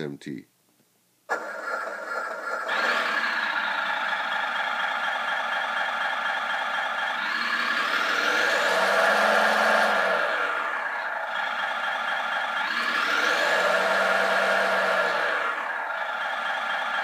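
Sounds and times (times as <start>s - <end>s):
simulated diesel engine from speaker: 1.3s - 17.0s.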